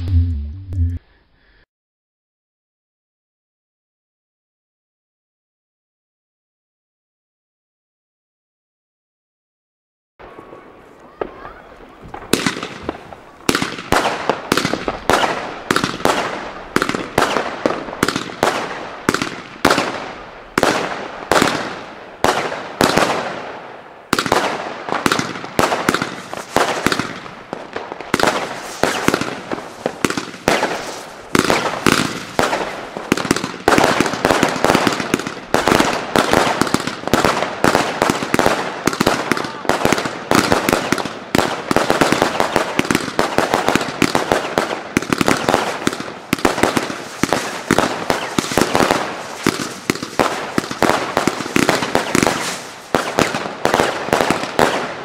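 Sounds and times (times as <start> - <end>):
fireworks launch and burst bangs: 10.2 - 55.0.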